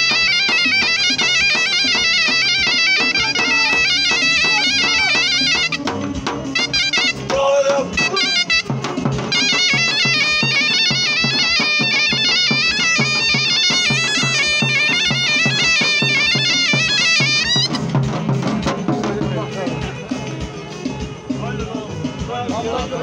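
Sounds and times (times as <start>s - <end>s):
shawm playing fast folk tune: 0.0s - 23.0s.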